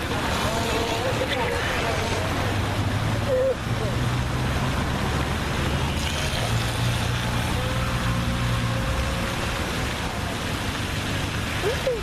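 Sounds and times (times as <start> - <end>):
boat motor humming: 0.0 - 12.0
water noise: 0.0 - 12.0.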